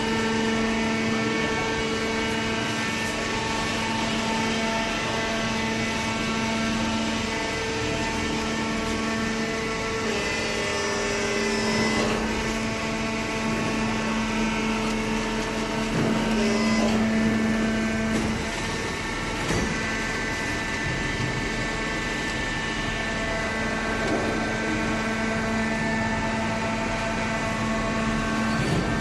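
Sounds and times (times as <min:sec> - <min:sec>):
hydraulic power unit humming: 0:00.0 - 0:29.0.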